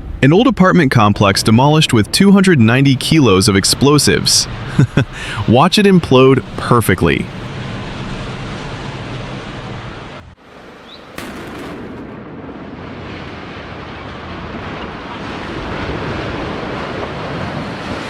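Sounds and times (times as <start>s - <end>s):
building collapse rumbling roar: 0.0s - 10.4s, 11.2s - 18.0s.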